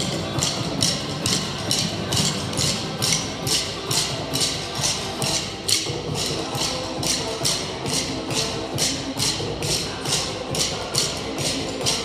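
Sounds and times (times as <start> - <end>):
upbeat recorded music: 0.0 - 12.0.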